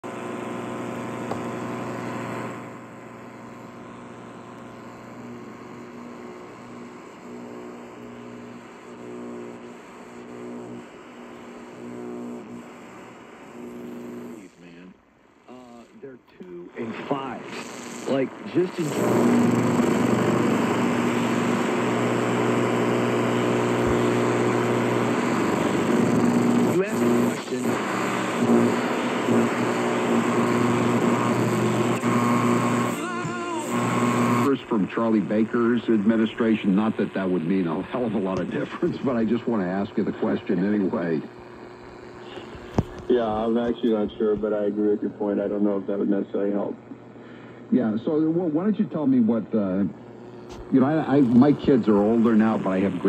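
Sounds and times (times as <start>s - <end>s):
buzzing hum: 0.0s - 53.0s
radio static hiss: 0.0s - 53.0s.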